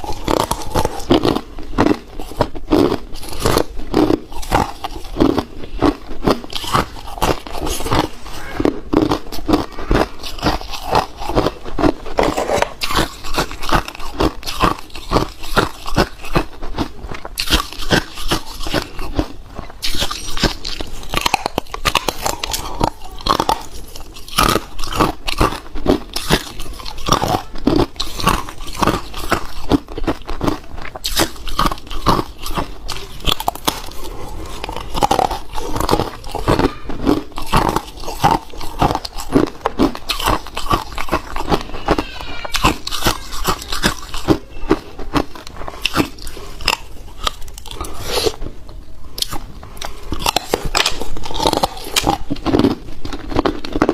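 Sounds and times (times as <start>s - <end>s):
person chewing ice: 0.0s - 53.9s.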